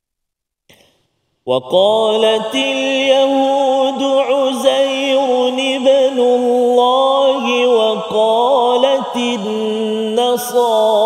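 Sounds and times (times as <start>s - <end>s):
man reciting melodically: 1.5s - 11.0s.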